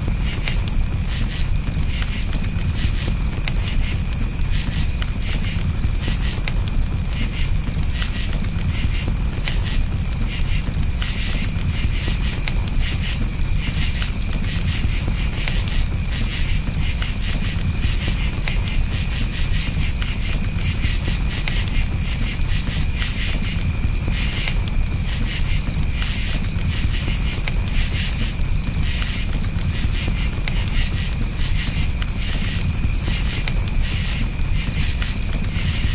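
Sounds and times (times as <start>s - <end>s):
campfire crackling: 0.0s - 35.9s
crickets chirping: 0.0s - 35.9s
low fire rumble: 0.0s - 35.9s
fire pops: 0.1s - 35.9s.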